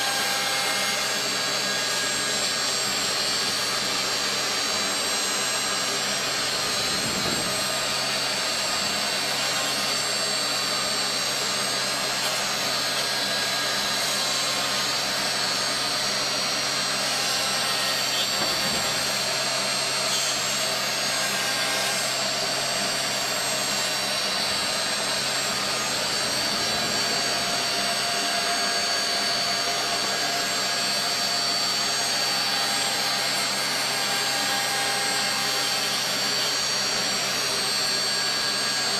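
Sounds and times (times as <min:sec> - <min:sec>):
machine noise: 0:00.0 - 0:38.9
router spindle high whine: 0:00.0 - 0:38.9.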